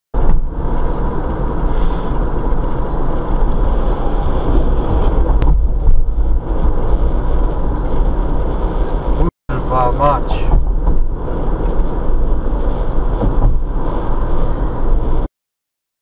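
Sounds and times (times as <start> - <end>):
car engine and tyre rumble: 0.2 - 15.3.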